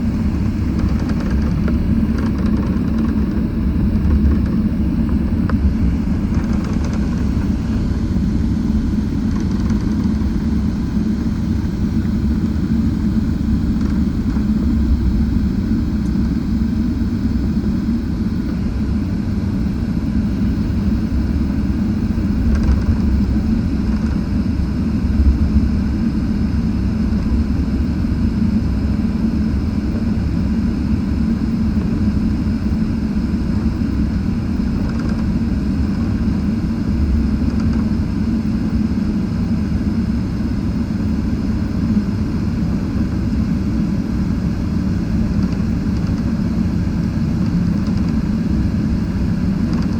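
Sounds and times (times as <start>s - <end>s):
jet engines running: 0.0s - 49.9s.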